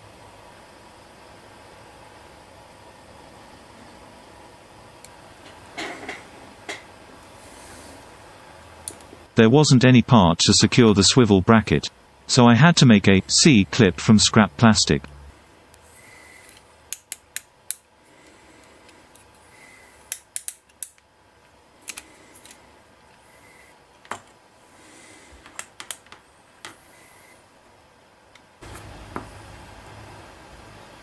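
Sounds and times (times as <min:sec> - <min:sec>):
steady low background noise: 0:00.0 - 0:31.0.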